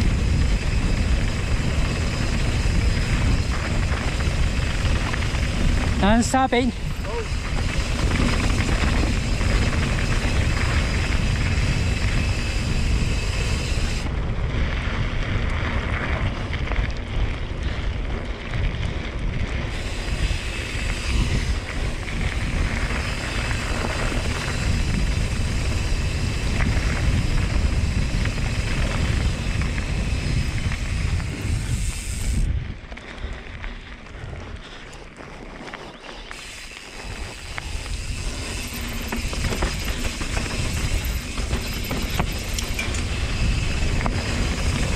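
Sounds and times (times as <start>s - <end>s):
bike tyres rolling on gravel: 0.0s - 44.9s
wind buffeting microphone: 0.0s - 44.9s.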